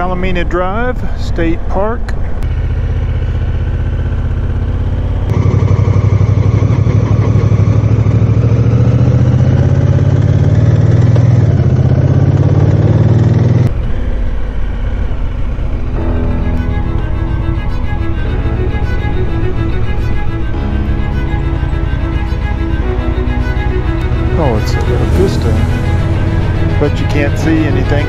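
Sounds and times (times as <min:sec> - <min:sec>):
motorcycle engine running: 0:02.2 - 0:28.0.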